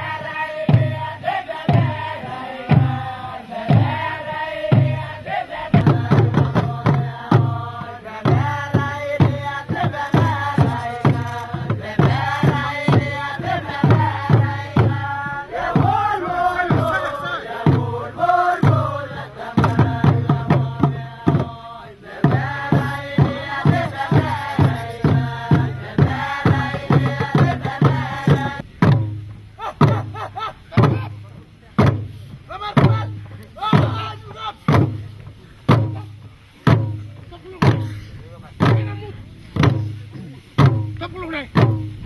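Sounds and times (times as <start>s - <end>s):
voices chanting together: 0.0s - 40.9s
hand drums beating: 0.0s - 42.0s.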